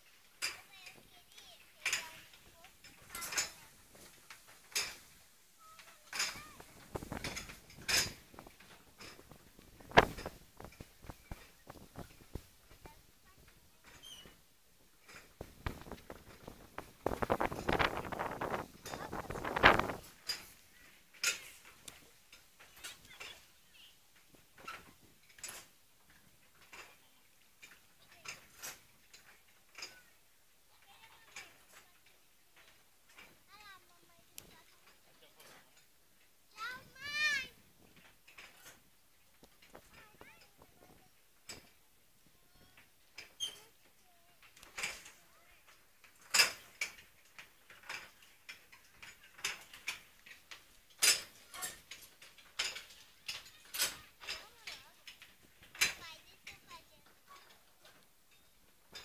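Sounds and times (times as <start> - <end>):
faint clicks and crackles: 0.0 - 59.0.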